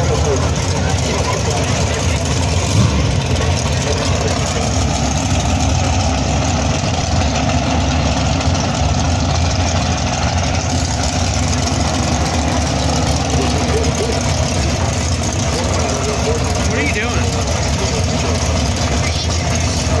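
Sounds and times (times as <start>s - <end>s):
race car engines running loudly: 0.0s - 20.0s.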